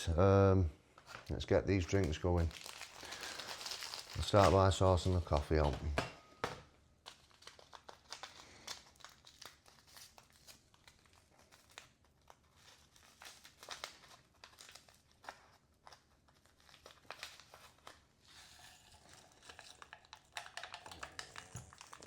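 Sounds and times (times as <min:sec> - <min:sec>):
plastic packets crinkling and tearing: 0:01.0 - 0:22.0.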